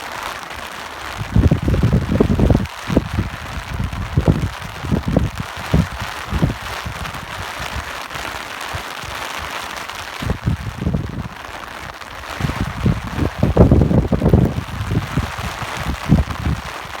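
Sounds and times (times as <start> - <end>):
rain hiss: 0.0 - 17.0
wind buffeting microphone: 1.1 - 9.2, 9.9 - 17.0.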